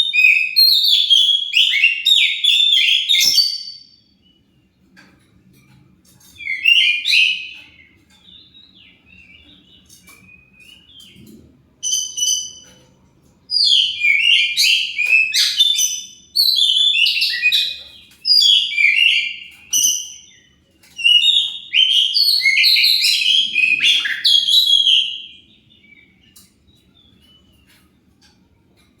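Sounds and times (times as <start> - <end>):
songbird whistling and chattering: 0.0 - 4.4, 6.4 - 11.2, 13.5 - 27.8.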